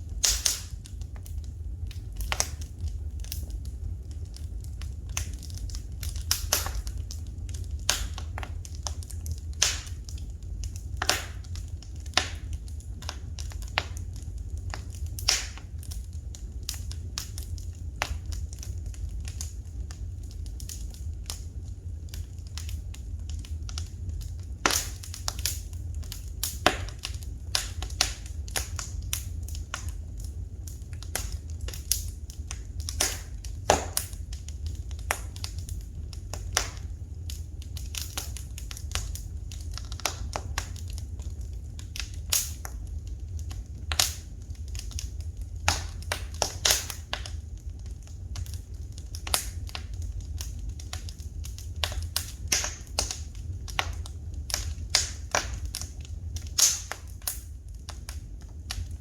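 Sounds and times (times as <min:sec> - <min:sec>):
low fire rumble: 0:00.0 - 0:59.0
wood fire crackling: 0:00.0 - 0:59.0.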